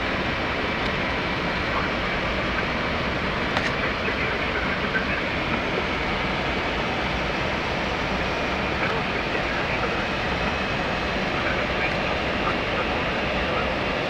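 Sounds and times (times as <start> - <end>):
airflow and engine noise in cockpit: 0.0 - 14.0.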